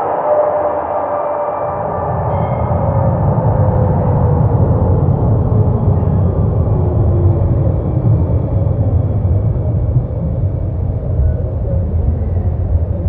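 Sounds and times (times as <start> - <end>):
loud low rumble: 0.0 - 13.0.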